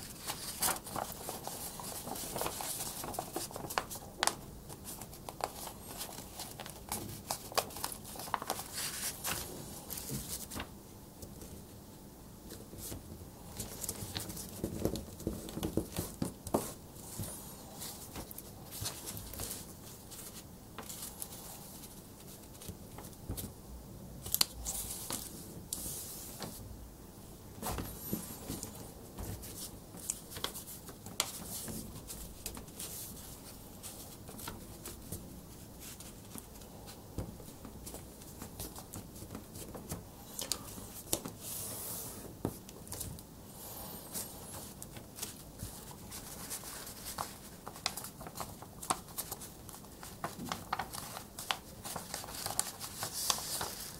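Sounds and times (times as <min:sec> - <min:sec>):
paper rustling and crinkling: 0:00.0 - 0:11.7, 0:12.5 - 0:23.5, 0:24.2 - 0:26.6, 0:27.6 - 0:53.9.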